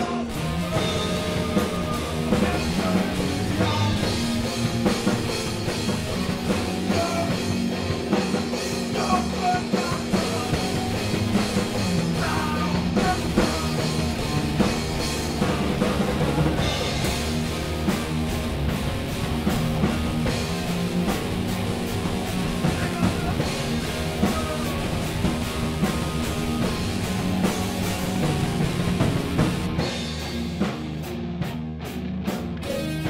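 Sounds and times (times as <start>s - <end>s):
drum kit playing: 0.0s - 33.0s
electric guitar: 0.0s - 33.0s.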